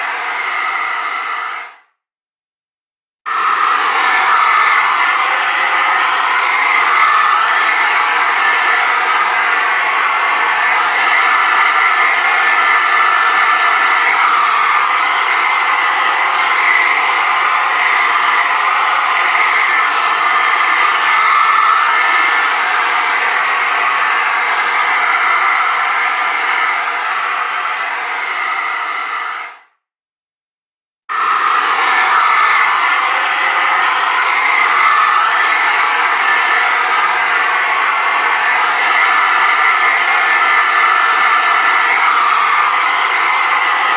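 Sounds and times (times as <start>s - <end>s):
hairdryer running: 0.0s - 1.8s, 3.3s - 29.7s, 31.1s - 43.9s.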